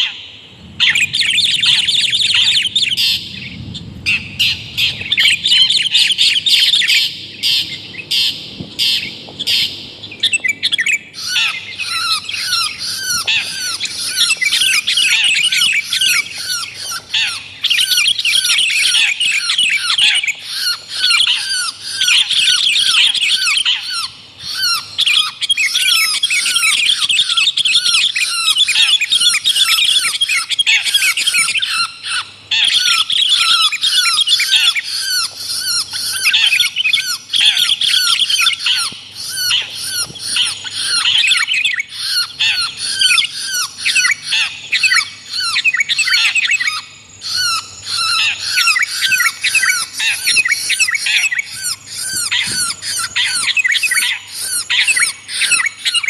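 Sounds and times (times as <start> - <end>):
birds chattering harshly: 0.0 - 56.0.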